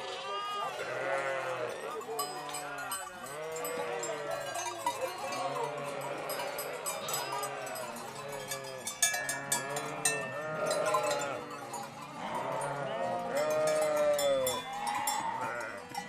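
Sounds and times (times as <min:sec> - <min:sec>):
sheep bleating: 0:00.0 - 0:04.7, 0:05.3 - 0:16.0
bells ringing and clinking: 0:00.8 - 0:16.0.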